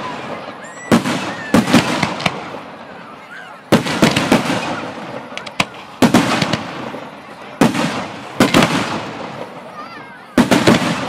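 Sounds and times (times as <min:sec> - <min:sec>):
firework cracks: 0:00.0 - 0:11.0.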